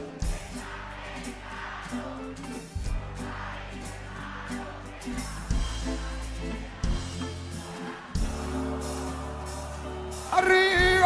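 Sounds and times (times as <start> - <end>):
live rock band: 0.0 - 11.0.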